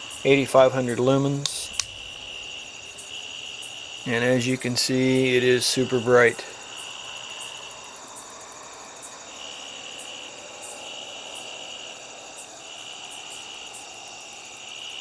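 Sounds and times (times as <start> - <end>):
background hiss: 0.0 - 15.0
crickets trilling: 0.0 - 15.0.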